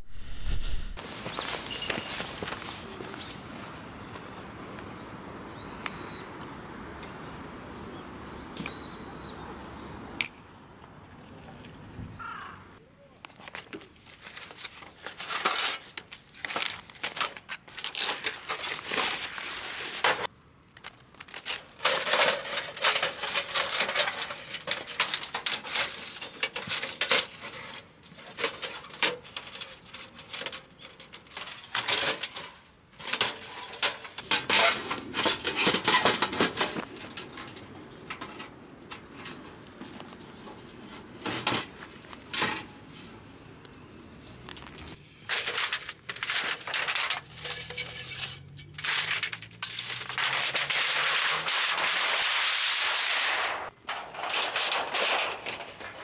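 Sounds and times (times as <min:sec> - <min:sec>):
rustling and crinkling: 0:01.0 - 0:04.3, 0:13.2 - 0:56.0.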